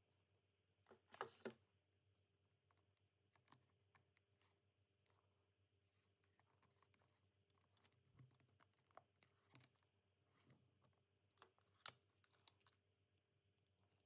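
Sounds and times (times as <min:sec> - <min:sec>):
soft rustles of plastic tubing: 0:00.8 - 0:14.0.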